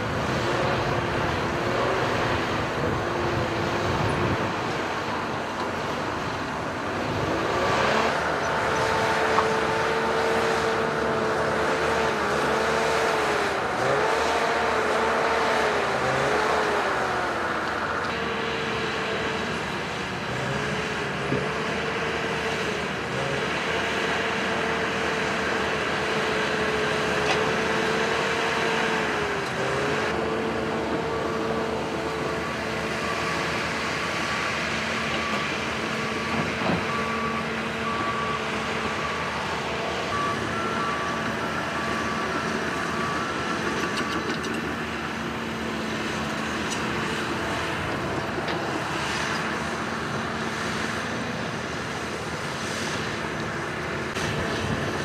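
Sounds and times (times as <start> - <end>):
diesel engines of earthmoving equipment: 0.0 - 55.0.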